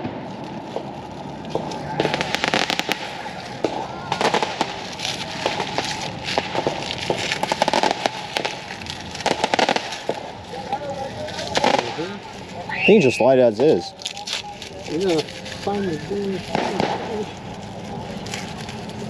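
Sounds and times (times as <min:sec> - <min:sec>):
fireworks popping and crackling: 0:00.0 - 0:19.0.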